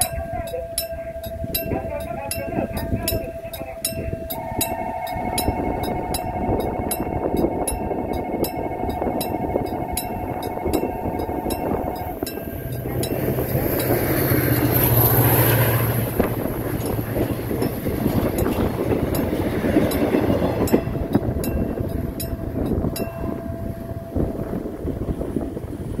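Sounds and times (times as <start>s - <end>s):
diesel locomotive engine drone: 0.0s - 26.0s
train coaches rumbling by: 0.0s - 26.0s
train wheels clacking: 0.0s - 26.0s.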